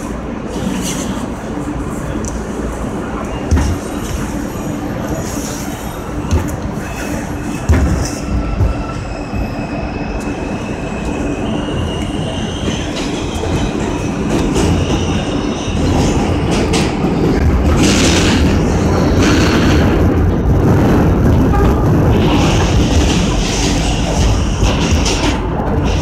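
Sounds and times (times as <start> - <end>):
subway train motor whine: 0.0 - 26.0
wheels rumbling on rail: 0.0 - 26.0.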